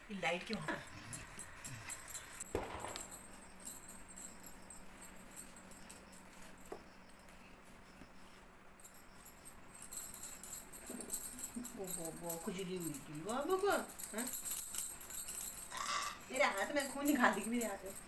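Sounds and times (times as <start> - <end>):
metal collar tags jingling: 0.2 - 7.5, 8.2 - 18.0.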